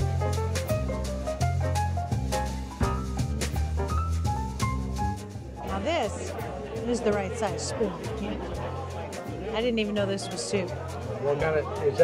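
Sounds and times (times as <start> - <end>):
jazzy swing music: 0.0 - 12.0.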